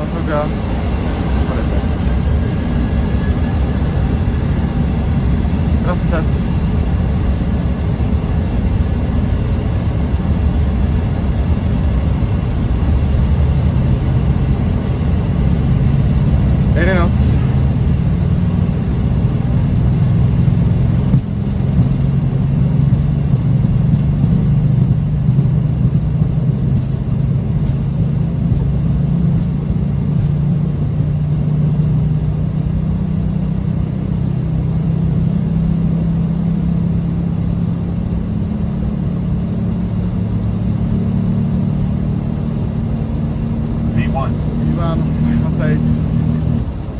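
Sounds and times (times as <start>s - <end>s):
jet engines humming: 0.0s - 46.9s
wheels rumbling on runway: 0.0s - 46.9s.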